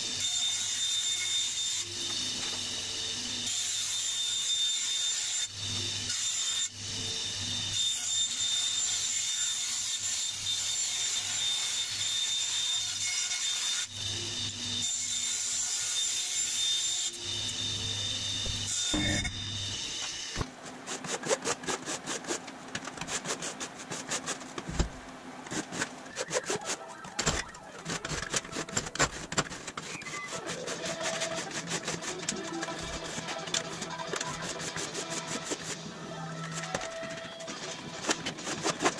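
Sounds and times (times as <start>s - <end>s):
bandsaw cutting metal sheet: 0.0s - 24.8s, 25.5s - 38.9s.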